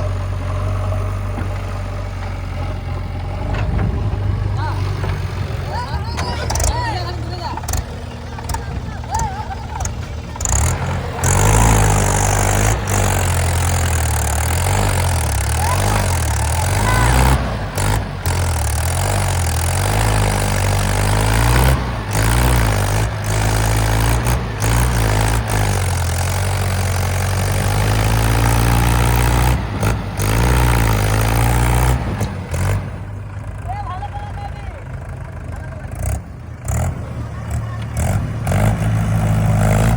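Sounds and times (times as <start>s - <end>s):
heavy diesel engine revving: 0.0s - 39.9s.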